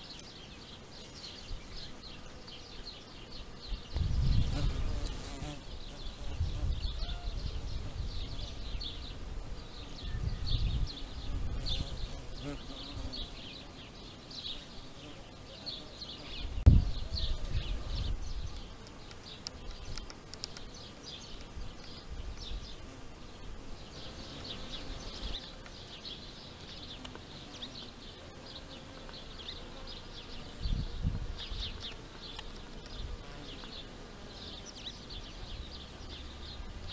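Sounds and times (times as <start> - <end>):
bees buzzing: 0.0 - 36.9
small birds chirping: 0.0 - 36.9.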